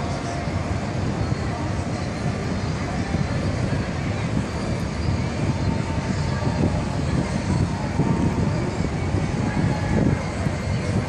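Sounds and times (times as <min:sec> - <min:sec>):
boat engines rumbling: 0:00.0 - 0:11.0
outdoor noise: 0:00.0 - 0:11.0.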